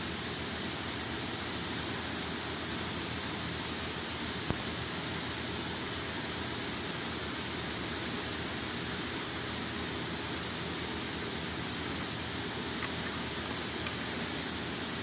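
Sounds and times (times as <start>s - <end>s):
electric fan hissing: 0.0s - 15.0s.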